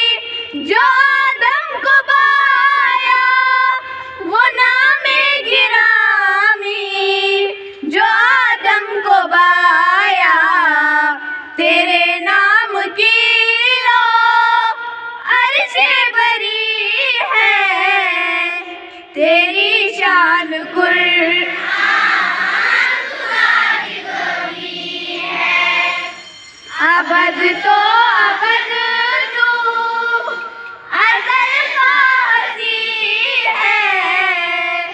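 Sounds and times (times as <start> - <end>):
children singing devotional song: 0.0 - 34.9.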